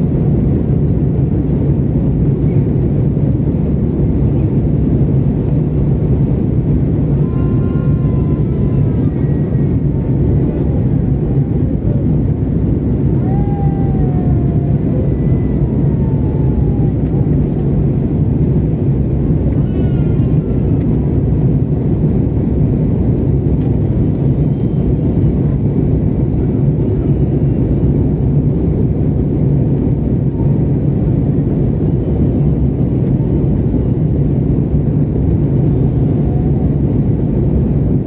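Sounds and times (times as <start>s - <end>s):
airliner cabin engine noise: 0.0s - 38.0s.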